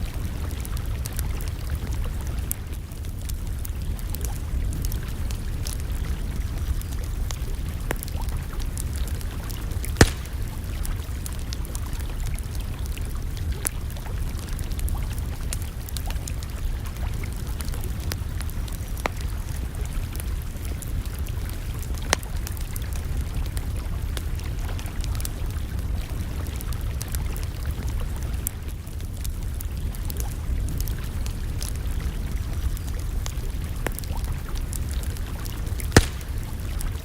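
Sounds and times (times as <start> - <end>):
campfire crackling: 0.0 - 37.0.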